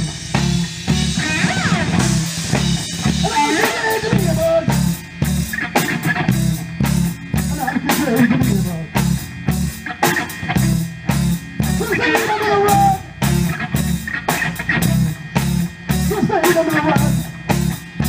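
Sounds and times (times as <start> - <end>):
bass guitar: 0.0 - 18.0
drum kit steady beat: 0.0 - 18.0
electric guitar bending notes: 0.0 - 18.0.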